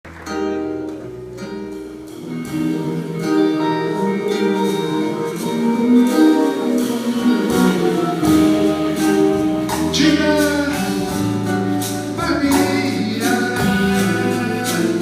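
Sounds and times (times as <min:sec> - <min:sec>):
band playing instrumental song: 0:00.1 - 0:15.0
plucked guitar chords: 0:00.1 - 0:15.0.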